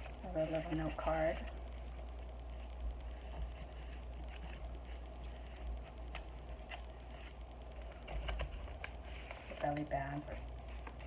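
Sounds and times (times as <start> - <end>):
paper rustling: 0.0 - 11.0
steady low hum: 0.0 - 11.0.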